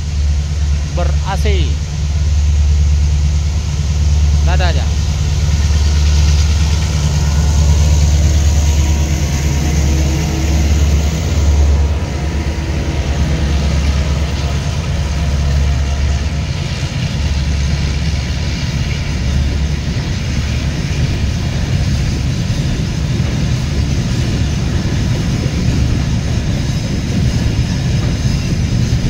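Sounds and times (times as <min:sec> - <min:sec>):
diesel locomotive engines humming: 0:00.0 - 0:29.0
wagons rumbling over rails: 0:00.0 - 0:29.0.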